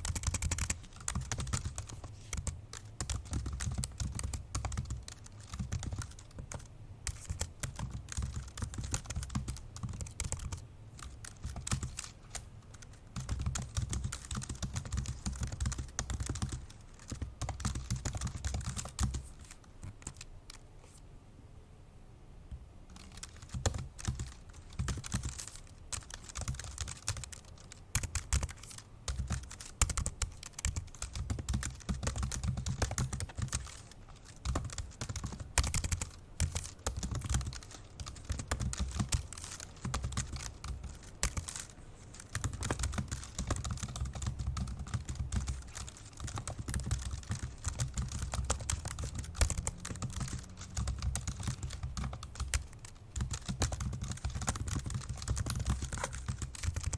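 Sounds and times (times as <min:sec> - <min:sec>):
fast typing on laptop keyboard: 0:00.0 - 0:20.6, 0:22.9 - 0:56.9.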